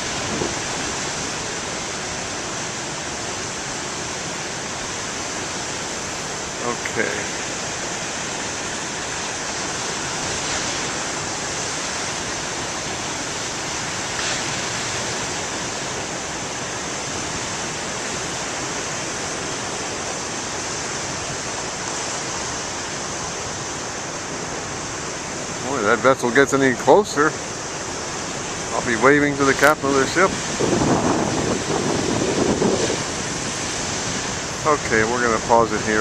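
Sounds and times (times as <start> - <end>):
surf breaking on shore: 0.0 - 36.0.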